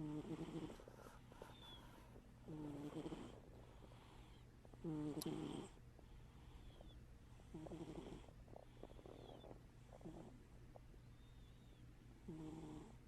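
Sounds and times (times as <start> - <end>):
cat snoring: 0.0 - 1.8, 2.4 - 5.8, 6.4 - 10.4, 11.1 - 13.0.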